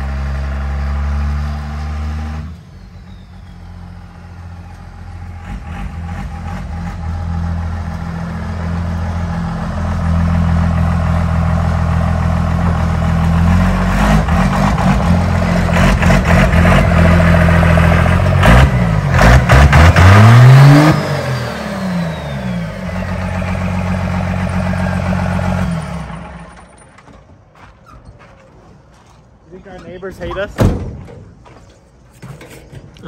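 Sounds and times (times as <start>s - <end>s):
diesel engine revving: 0.0s - 27.1s.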